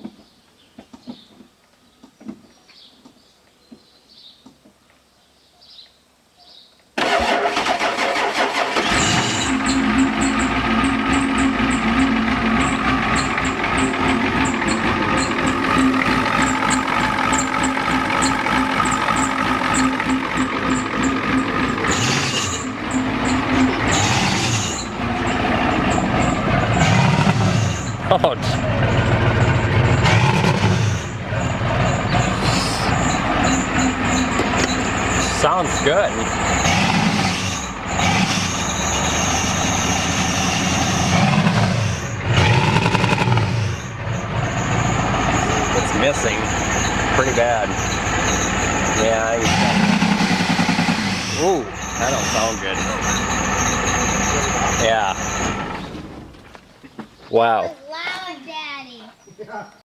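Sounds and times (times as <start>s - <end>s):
diesel engine clattering: 7.0s - 59.0s.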